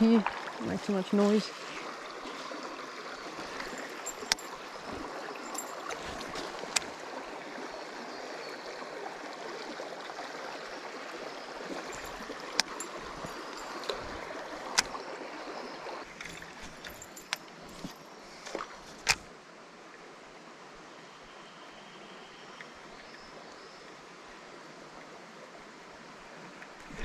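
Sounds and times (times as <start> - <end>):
creek water running: 0.0 - 21.1, 22.4 - 27.0.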